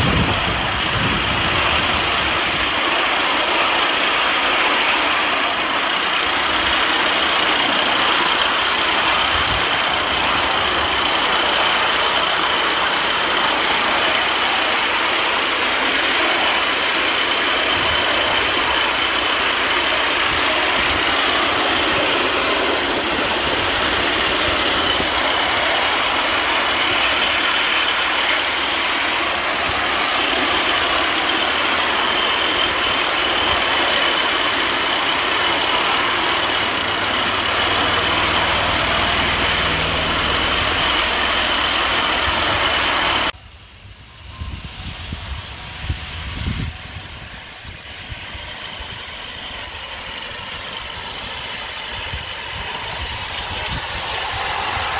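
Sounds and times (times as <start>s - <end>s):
wheels rolling on rails: 0.0s - 43.4s, 44.4s - 54.9s.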